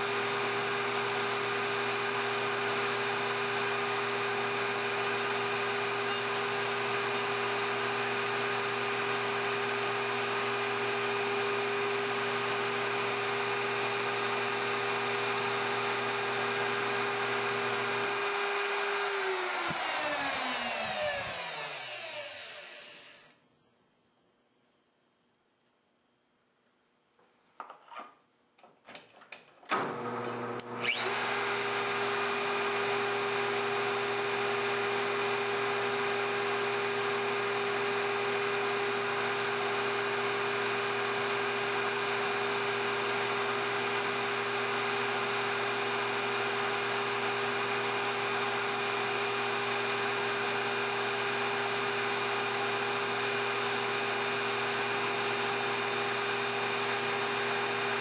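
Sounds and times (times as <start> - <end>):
drill boring: 0.0 - 23.4, 29.7 - 58.0
lathe spindle whine: 0.1 - 23.3, 30.0 - 58.0.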